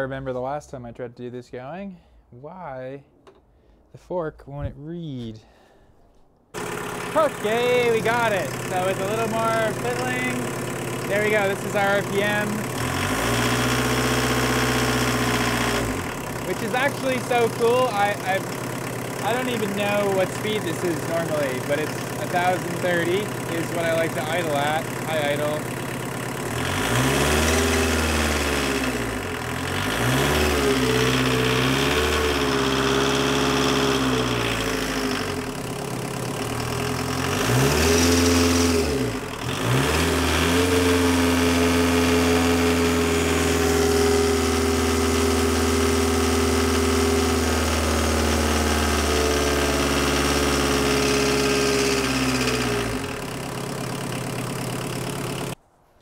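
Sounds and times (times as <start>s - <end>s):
diesel engine idling: 6.6s - 55.6s.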